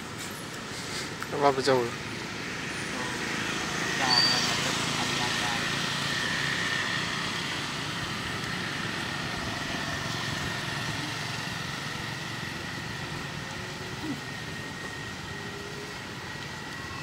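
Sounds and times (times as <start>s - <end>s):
small engine running: 0.1s - 17.0s.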